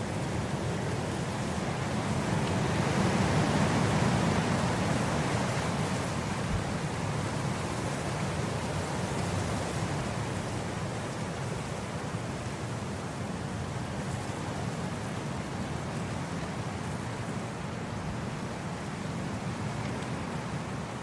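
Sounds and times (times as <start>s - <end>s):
wind blowing across grass: 0.0s - 21.0s.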